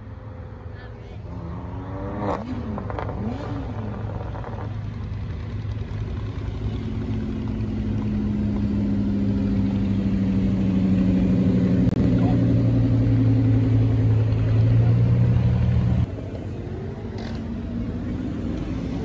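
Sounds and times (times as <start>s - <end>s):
car engine revving: 1.2s - 19.0s.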